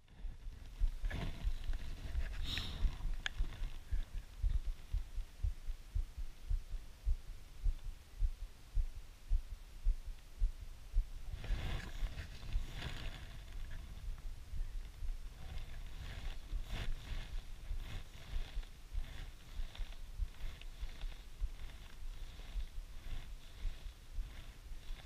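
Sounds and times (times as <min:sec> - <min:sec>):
rustle: 0:00.0 - 0:06.3, 0:11.1 - 0:25.0
muffled thumps on microphone: 0:00.0 - 0:25.0.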